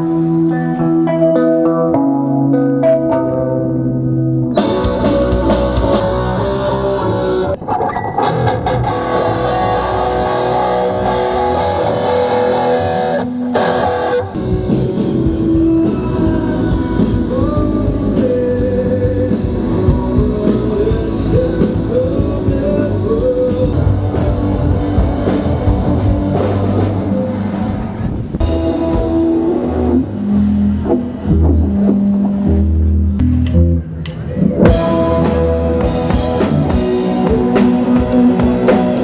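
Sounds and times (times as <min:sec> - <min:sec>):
rock music with guitars and drums: 0:00.0 - 0:32.4, 0:34.5 - 0:39.0.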